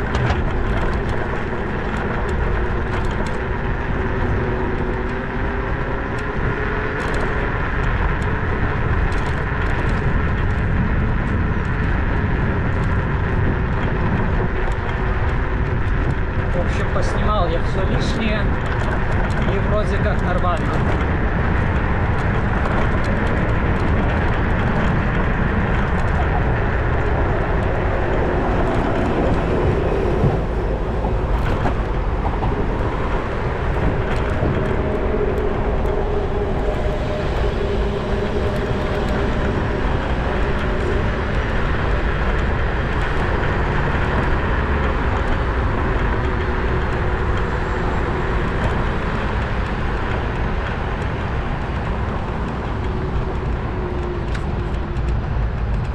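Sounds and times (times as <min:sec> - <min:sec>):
vehicle riding noise: 0:00.0 - 0:55.9.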